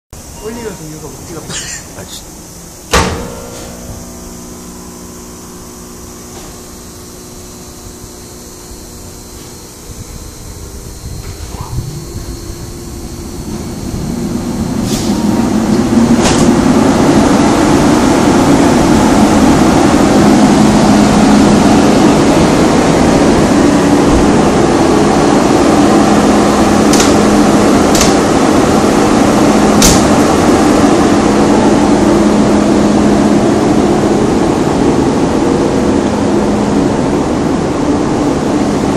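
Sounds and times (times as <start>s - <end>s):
locomotive machinery whirring: 0.2s - 38.9s.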